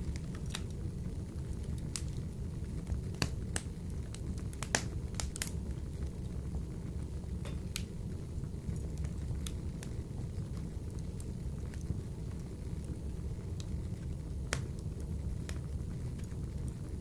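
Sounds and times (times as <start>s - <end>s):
low rush of flames: 0.0s - 17.0s
wood fire crackling and popping: 0.0s - 17.0s.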